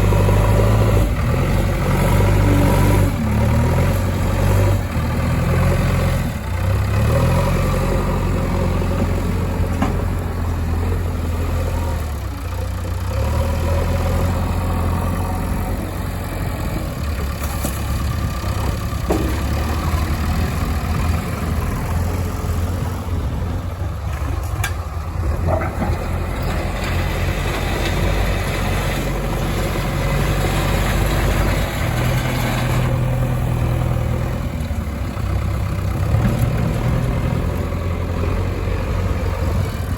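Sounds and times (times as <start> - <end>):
heavy diesel engines revving: 0.0 - 39.9.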